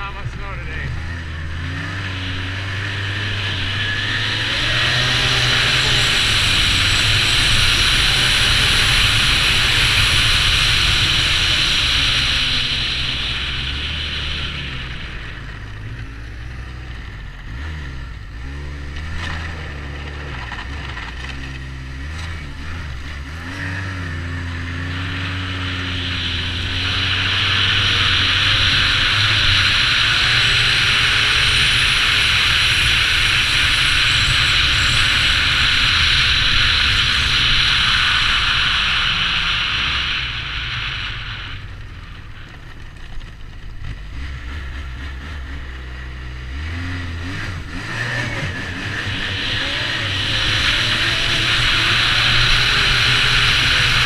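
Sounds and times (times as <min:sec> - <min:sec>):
snowmobile engine with rushing hiss: 0:00.0 - 0:54.0.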